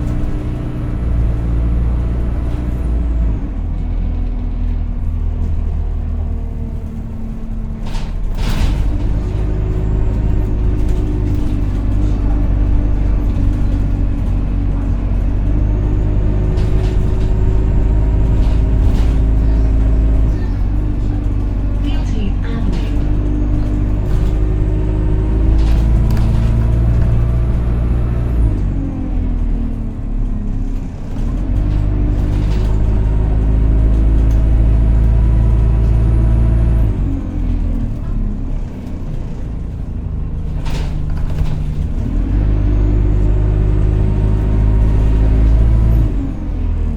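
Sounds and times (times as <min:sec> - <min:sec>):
bus engine low rumble: 0:00.0 - 0:46.9
engine whine: 0:00.0 - 0:46.9.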